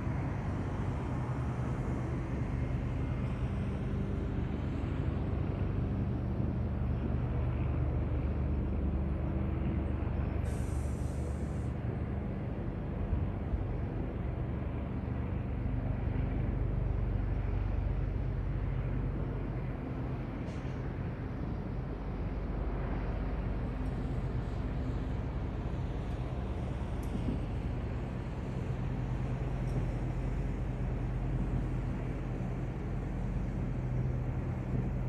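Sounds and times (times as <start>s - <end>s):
low engine drone: 0.0s - 35.0s.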